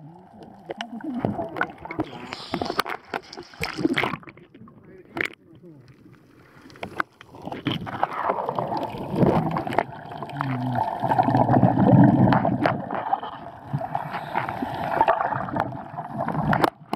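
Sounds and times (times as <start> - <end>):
underwater rushing water: 0.0 - 16.9.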